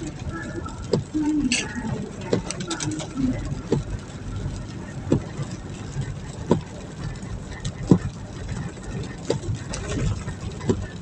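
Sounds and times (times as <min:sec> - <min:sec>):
vehicle rumbling on road: 0:00.0 - 0:11.0.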